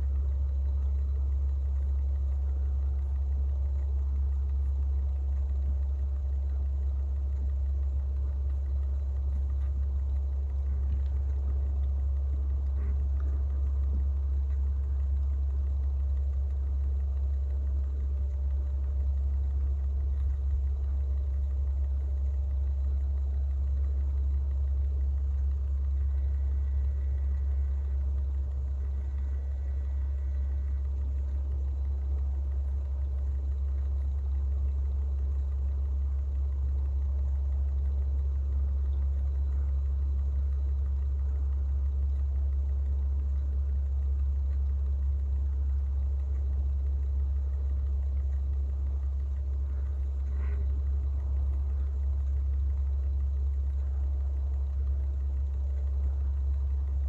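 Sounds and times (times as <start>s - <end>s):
low hum: 0.0s - 57.0s.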